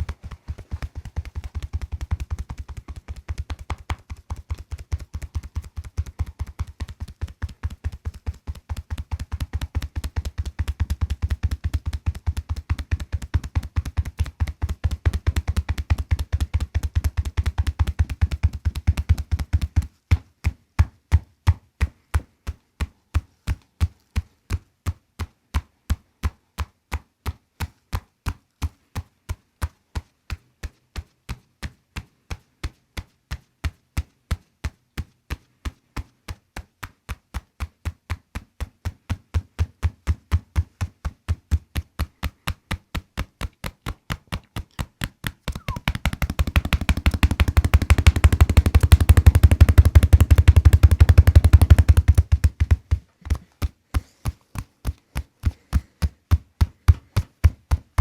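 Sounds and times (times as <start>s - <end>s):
rapid sharp taps: 0.0s - 31.4s, 34.0s - 58.0s.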